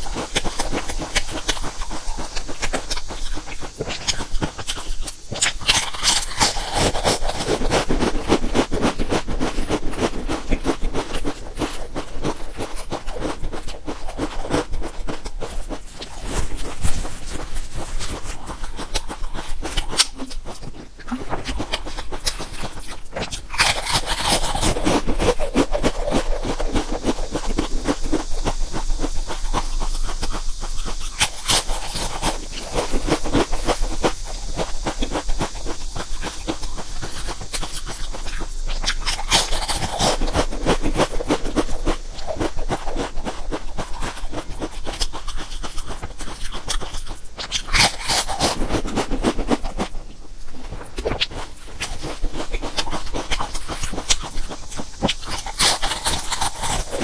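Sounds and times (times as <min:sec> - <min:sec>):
crisps being chewed crunching: 0:00.0 - 0:57.0.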